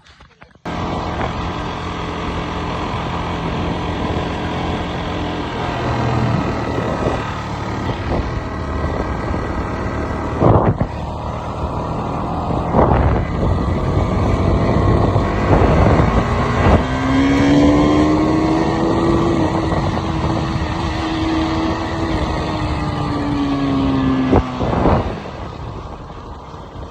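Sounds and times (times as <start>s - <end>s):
motorcycle engine revving: 0.6s - 26.9s.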